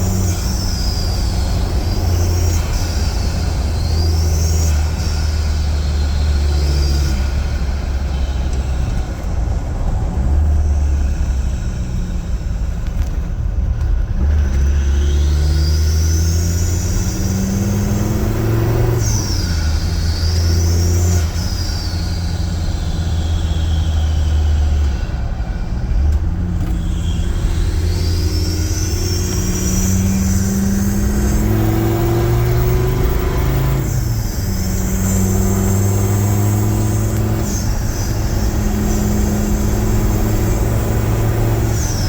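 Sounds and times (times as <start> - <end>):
turbo whistling: 0.0 - 9.4, 14.8 - 42.0
diesel engine revving: 0.0 - 42.0.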